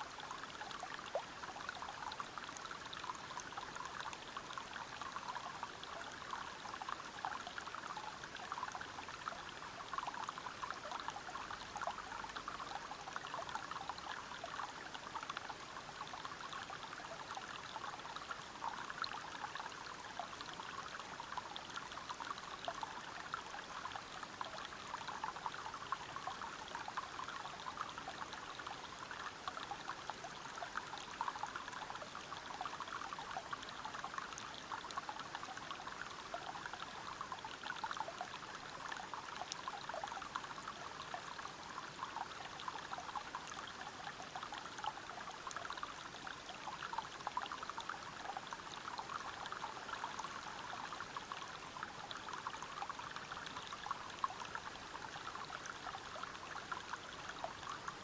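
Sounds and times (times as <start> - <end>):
river water over rocks: 0.0 - 58.0.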